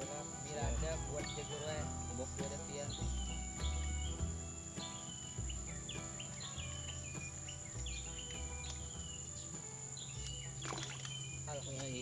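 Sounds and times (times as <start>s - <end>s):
crickets droning: 0.0s - 12.0s
small birds chirping: 0.0s - 12.0s.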